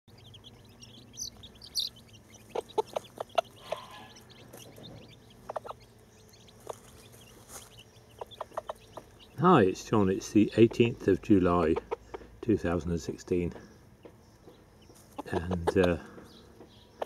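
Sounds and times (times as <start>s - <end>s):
chicks peeping: 0.1s - 17.0s
hen clucking: 0.1s - 17.0s.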